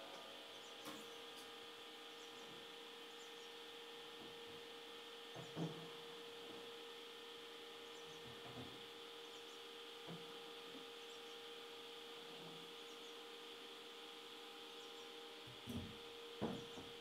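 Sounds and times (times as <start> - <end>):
electrical hum of machinery: 0.0 - 17.0.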